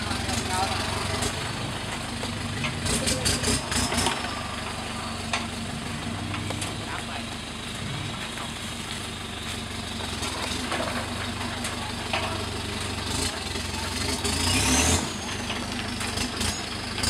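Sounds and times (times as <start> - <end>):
pickup engine rumbling: 0.0 - 17.0.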